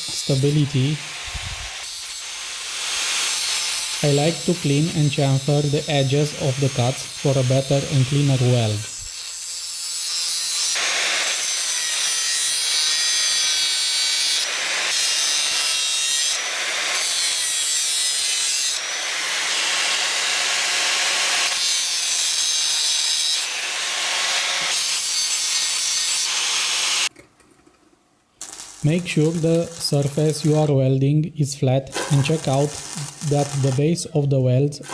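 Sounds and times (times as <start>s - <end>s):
angle grinder scraping metal: 0.0s - 27.1s, 28.4s - 30.7s, 31.8s - 34.9s.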